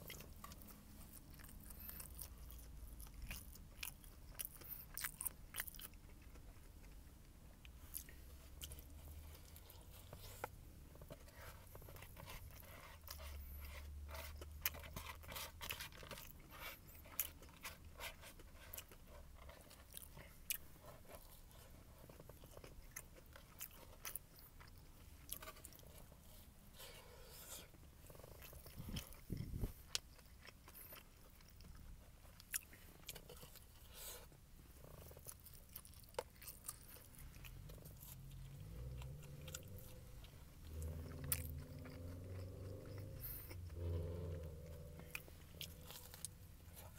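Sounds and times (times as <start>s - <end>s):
chewing and crunching: 0.0s - 46.9s.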